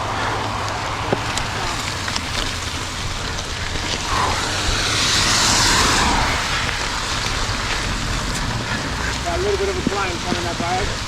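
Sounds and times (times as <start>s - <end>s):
rain: 0.0s - 11.0s
tyres hissing on wet trail: 0.0s - 11.0s
wind rumbling on microphone: 0.0s - 11.0s.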